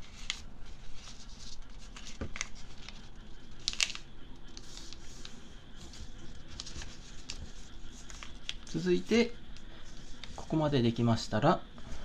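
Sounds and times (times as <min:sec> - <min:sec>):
paper rustling and creasing: 0:00.0 - 0:10.6.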